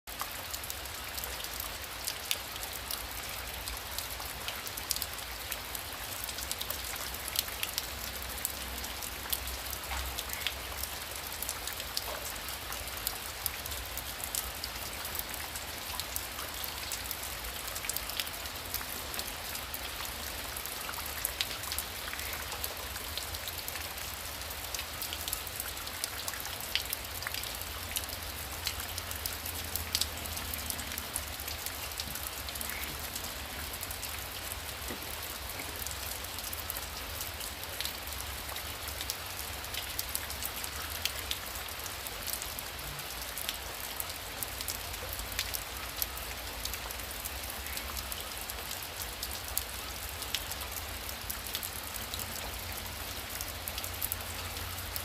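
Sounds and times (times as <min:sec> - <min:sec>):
heavy rain falling: 0:00.1 - 0:55.0
raindrops ticking: 0:00.1 - 0:55.0.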